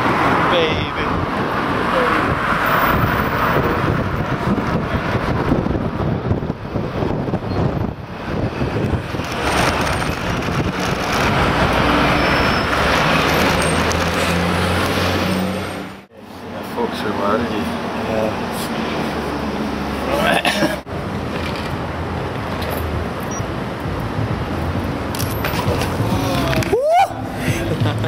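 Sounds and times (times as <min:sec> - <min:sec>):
road traffic rush: 0:00.0 - 0:28.0.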